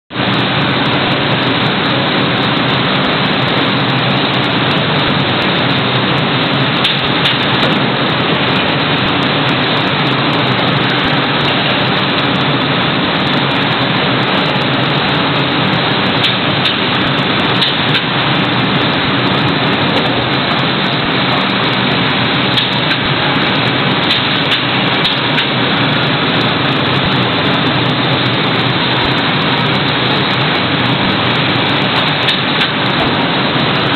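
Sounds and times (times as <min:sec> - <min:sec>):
freezer machinery running: 0:00.1 - 0:33.9.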